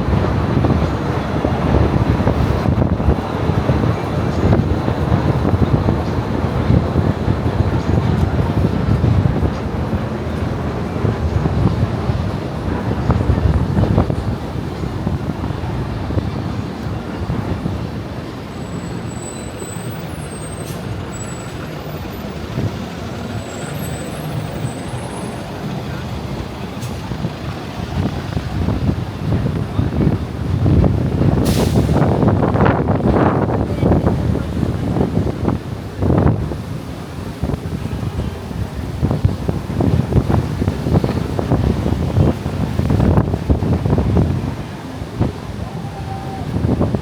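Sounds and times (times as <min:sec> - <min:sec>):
city traffic noise: 0:00.0 - 0:47.0
wind buffeting microphone: 0:00.0 - 0:47.0.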